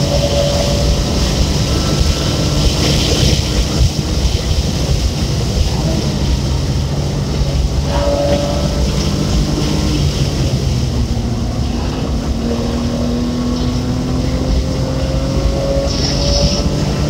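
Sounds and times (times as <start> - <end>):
car engine at high revs: 0.0 - 17.0
wind and road noise: 0.0 - 17.0.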